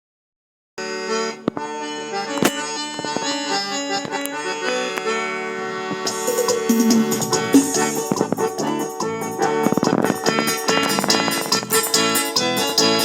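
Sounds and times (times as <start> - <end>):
accordion folk music: 0.8 - 13.0.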